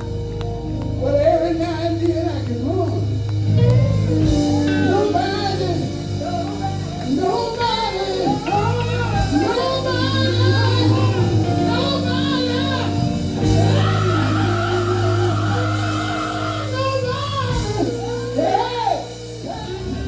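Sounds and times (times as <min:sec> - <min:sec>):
gospel group singing: 0:00.0 - 0:20.0
live band playing: 0:00.0 - 0:20.0.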